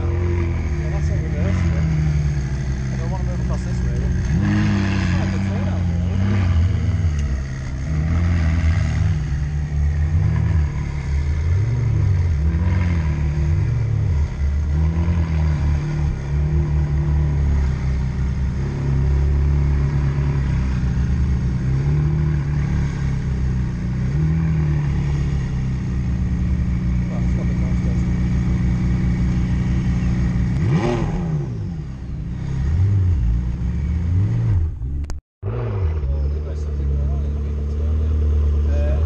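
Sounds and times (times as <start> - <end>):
car engine idling with throttle blips: 0.0 - 39.0.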